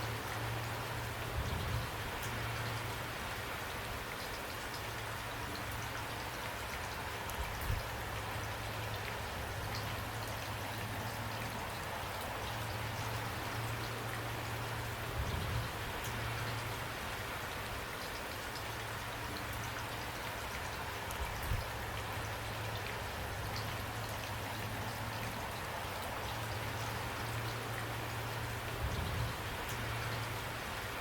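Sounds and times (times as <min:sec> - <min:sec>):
rain drops ticking on a surface: 0:00.0 - 0:31.0.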